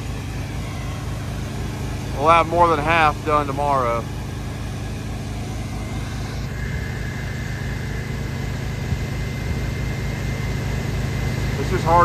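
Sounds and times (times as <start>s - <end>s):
engine droning: 0.0s - 12.0s
faint high whine: 0.0s - 12.0s.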